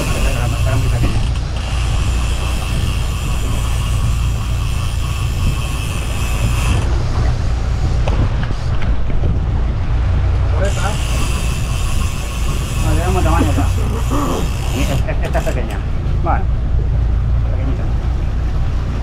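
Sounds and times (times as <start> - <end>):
boat motor rumbling: 0.0 - 19.0
wind: 0.0 - 19.0.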